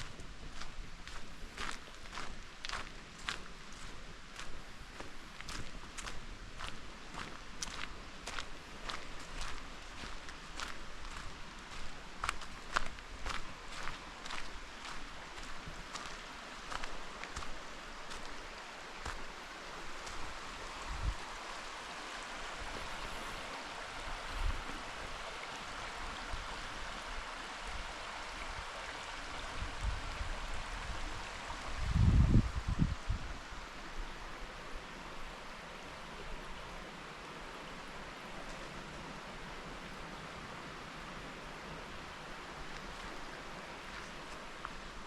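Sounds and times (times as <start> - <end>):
rushing forest ambience: 0.0 - 45.0.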